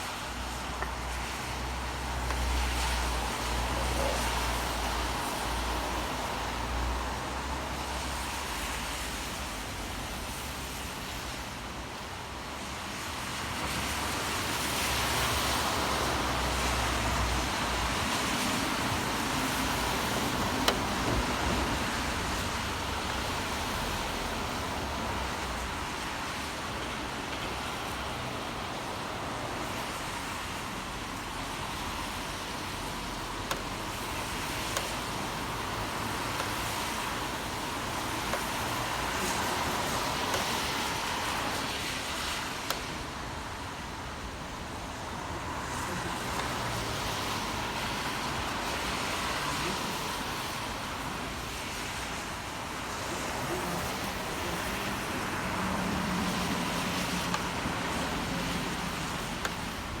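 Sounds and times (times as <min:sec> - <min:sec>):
tyres hissing on wet road: 0:00.0 - 1:00.0.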